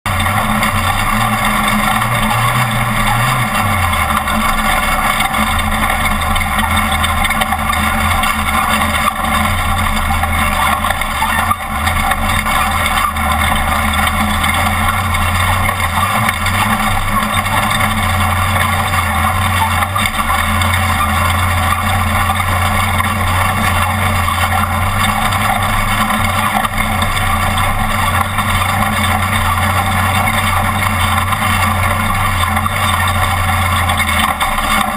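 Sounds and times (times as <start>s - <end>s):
truck engine running hard: 0.0s - 34.9s.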